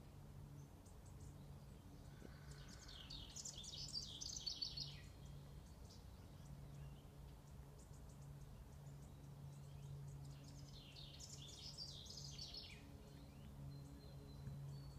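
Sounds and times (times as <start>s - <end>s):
low hum: 0.0s - 14.9s
songbird singing: 0.0s - 14.9s.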